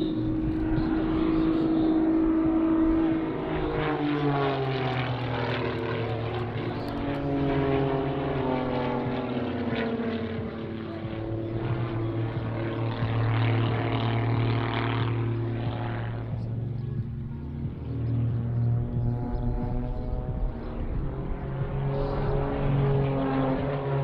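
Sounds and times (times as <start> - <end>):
propeller aircraft drone: 0.0 - 24.0.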